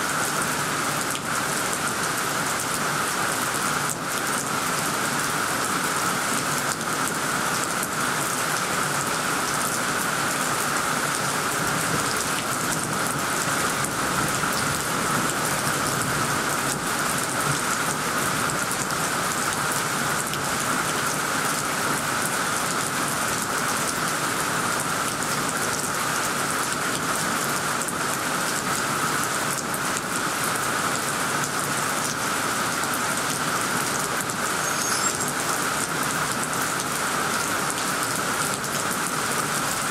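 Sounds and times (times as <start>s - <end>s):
heavy rain on trees: 0.0s - 39.9s.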